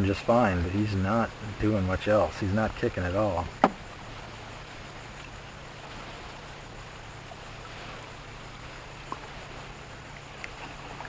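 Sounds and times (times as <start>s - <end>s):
steady wind: 0.0s - 11.0s
water lapping around a boat: 0.0s - 11.0s.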